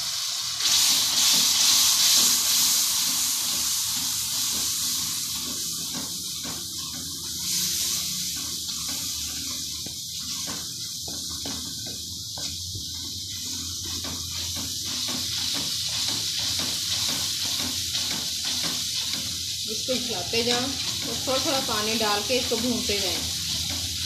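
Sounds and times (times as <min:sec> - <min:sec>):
masala sizzling in hot oil: 0:00.0 - 0:24.0
wooden spatula stirring: 0:03.4 - 0:24.0.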